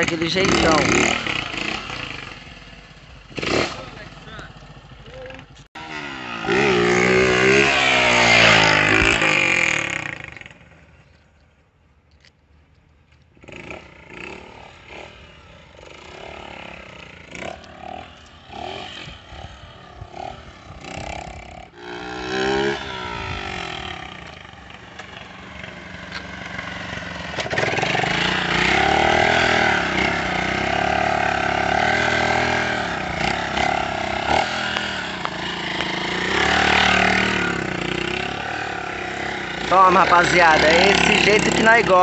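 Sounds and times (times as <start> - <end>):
motorcycle engine revving: 0.0 - 11.2, 13.3 - 42.0.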